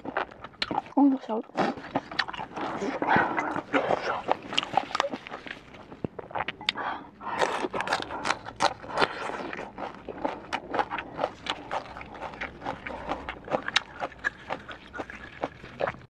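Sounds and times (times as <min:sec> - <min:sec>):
crunchy chewing of food: 0:00.0 - 0:16.0.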